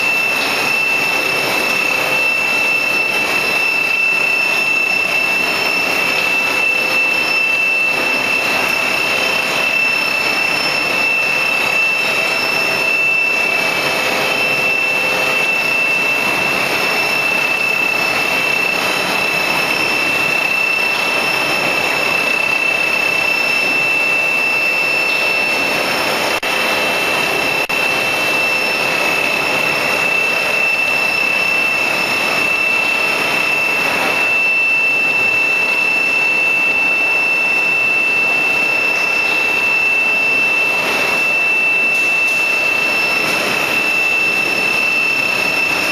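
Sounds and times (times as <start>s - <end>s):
high-pitched machine whine: 0.0s - 45.9s
machine running loudly: 0.0s - 45.9s.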